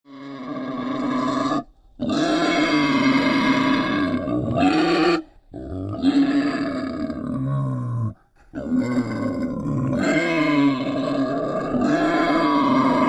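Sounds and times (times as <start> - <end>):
wild pig calling: 0.1 - 13.0.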